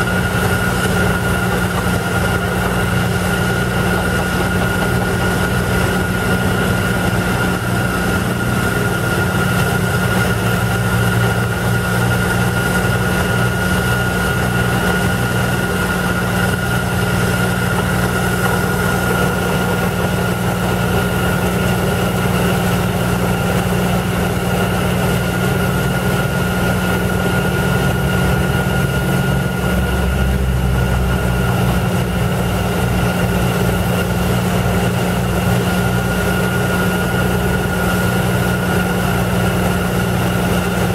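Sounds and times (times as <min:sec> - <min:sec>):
pneumatic drilling rig: 0:00.0 - 0:40.9.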